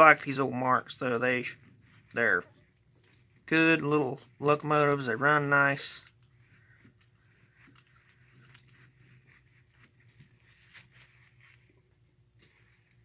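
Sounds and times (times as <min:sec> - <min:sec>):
low steady hum: 0:00.0 - 0:13.0
small parts clicking and scratching: 0:00.0 - 0:13.0.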